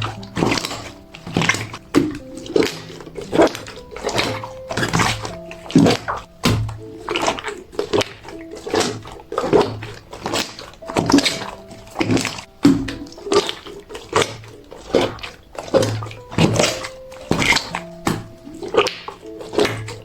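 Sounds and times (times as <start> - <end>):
slime squelching by hand: 0.0 - 20.0
soft background music: 0.0 - 20.0.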